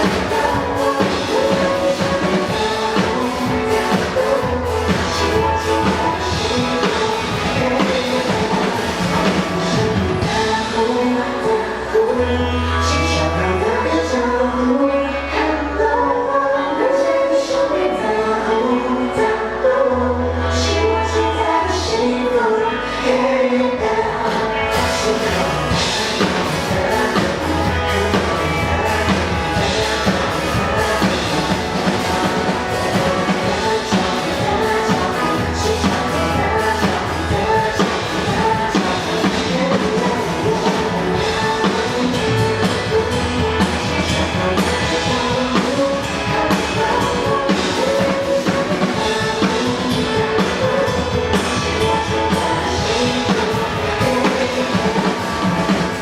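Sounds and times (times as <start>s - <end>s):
rock song with singer: 0.0s - 56.0s.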